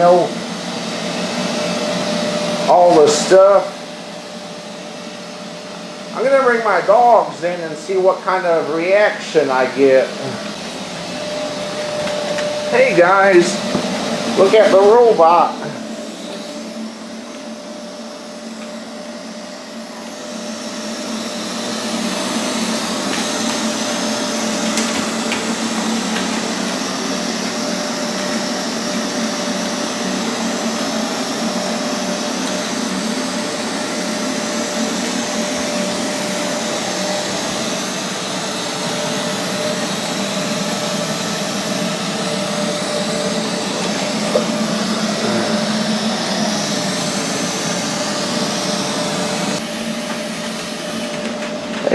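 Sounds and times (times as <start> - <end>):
robotic vacuum whirring: 0.0 - 51.9.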